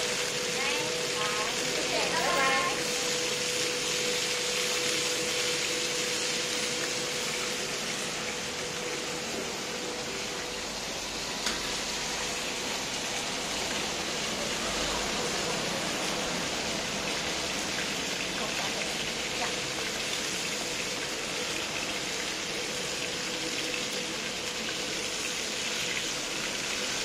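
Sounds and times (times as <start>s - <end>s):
buns sizzling in hot oil: 0.0s - 27.0s.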